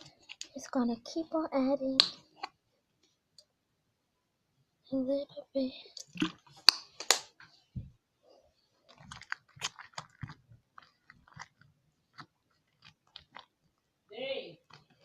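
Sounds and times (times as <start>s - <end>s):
slime squelching: 0.0s - 2.6s, 5.6s - 15.0s.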